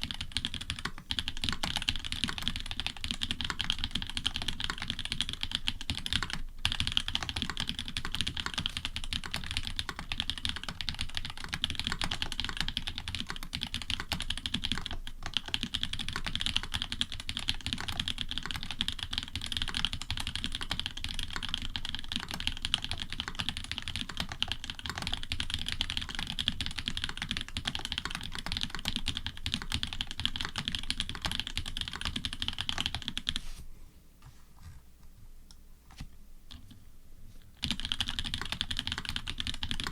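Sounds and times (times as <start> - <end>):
fast mechanical keyboard typing: 0.0 - 33.4, 37.6 - 39.9.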